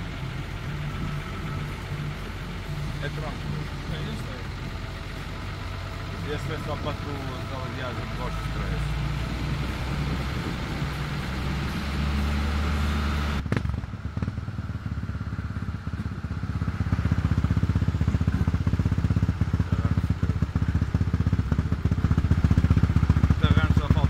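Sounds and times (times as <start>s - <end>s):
off-road vehicle engines: 0.0s - 24.0s.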